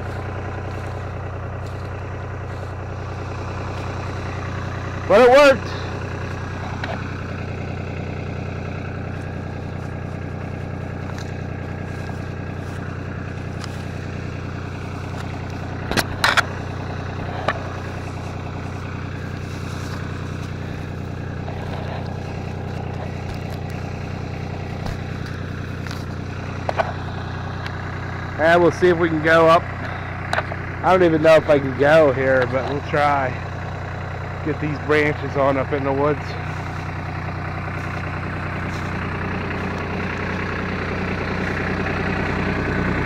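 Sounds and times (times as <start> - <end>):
utility vehicle engine idling: 0.0 - 43.0.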